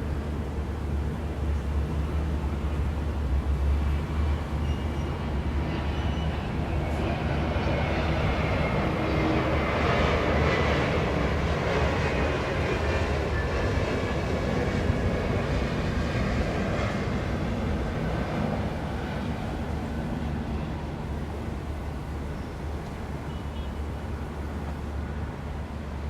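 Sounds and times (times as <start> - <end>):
city traffic rumble: 0.0 - 26.0.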